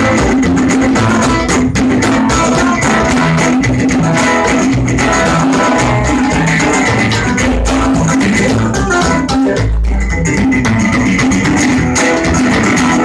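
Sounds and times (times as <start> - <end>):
strummed resonator guitar: 0.0 - 13.0
upright bass plucking: 0.0 - 13.0.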